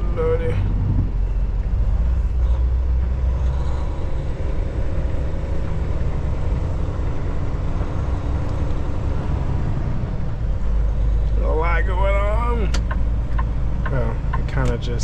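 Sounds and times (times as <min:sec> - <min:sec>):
road noise: 0:00.0 - 0:15.0
truck diesel engine running: 0:00.0 - 0:15.0.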